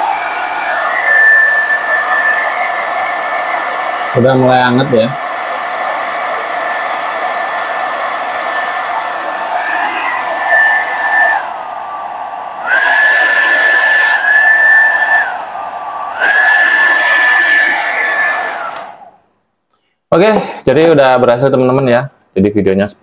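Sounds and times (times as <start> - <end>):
hair dryer running: 0.0 - 19.2.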